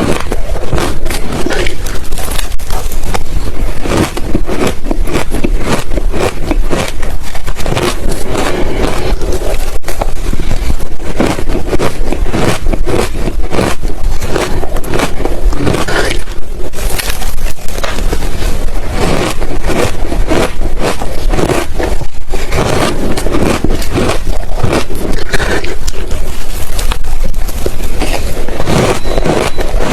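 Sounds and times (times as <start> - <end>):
ice being chewed: 0.0 - 29.9.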